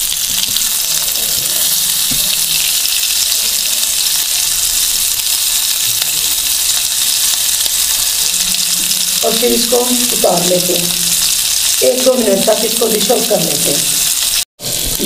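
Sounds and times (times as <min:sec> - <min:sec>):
skewers sizzling in hot oil: 0:00.0 - 0:15.0.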